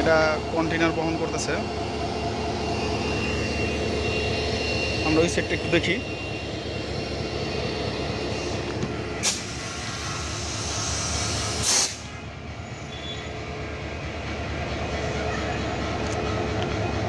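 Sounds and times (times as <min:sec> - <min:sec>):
locomotive engine rumbling: 0:00.0 - 0:17.0.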